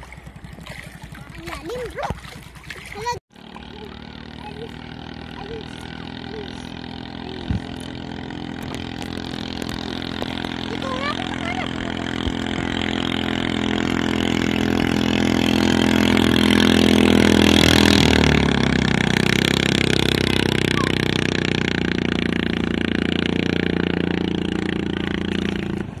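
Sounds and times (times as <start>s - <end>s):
racing boat engine passing: 0.0s - 26.0s.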